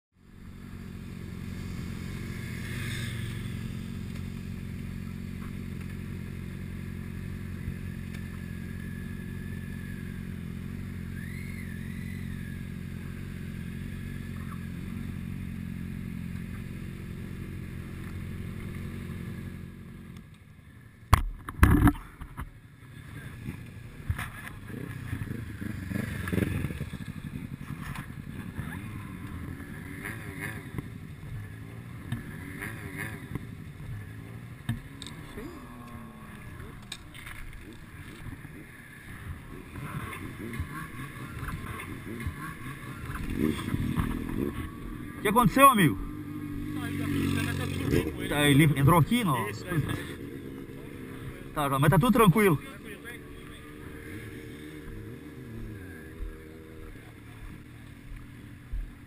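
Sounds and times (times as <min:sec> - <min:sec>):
motorcycle engine running: 0:00.2 - 0:59.0.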